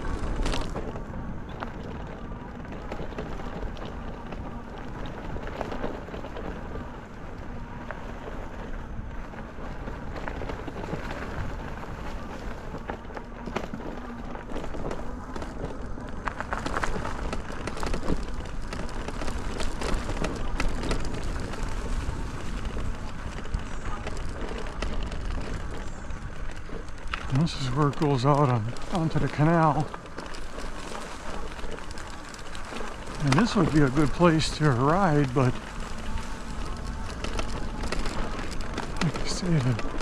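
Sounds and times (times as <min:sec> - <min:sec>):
bike clicks and rattles: 0:00.0 - 0:40.0
bike tyres rumbling on trail: 0:00.0 - 0:40.0.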